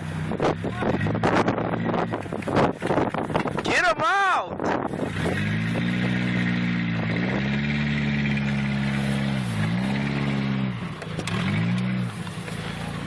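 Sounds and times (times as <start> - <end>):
truck engine revving: 0.0 - 3.7, 4.7 - 13.0.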